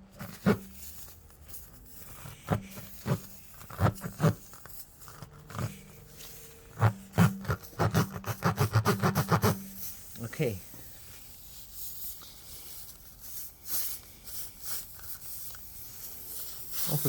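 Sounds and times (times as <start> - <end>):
reamer rasping in tire rubber: 0.2 - 17.0.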